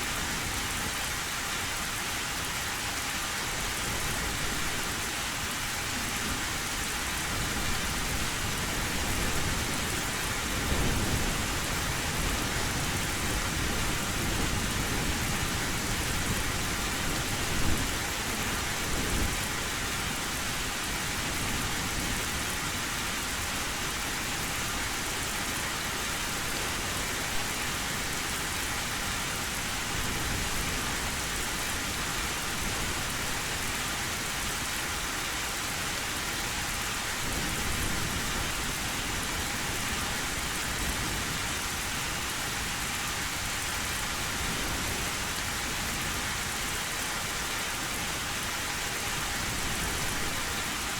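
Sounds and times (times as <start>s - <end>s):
heavy rain on a tin roof: 0.0s - 50.9s.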